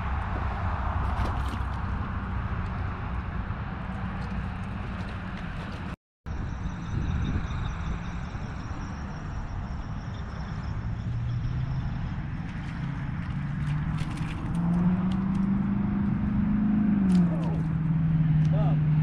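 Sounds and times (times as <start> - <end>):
vehicle engine accelerating: 0.0 - 19.0.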